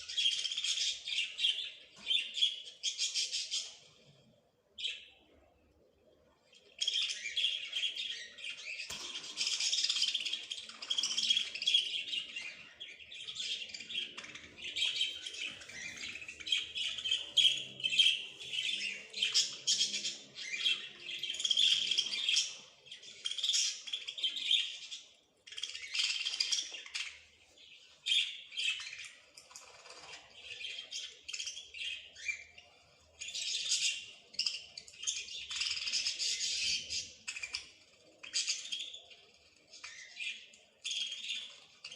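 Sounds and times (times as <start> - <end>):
songbirds chirping and twittering: 0.0 - 41.9.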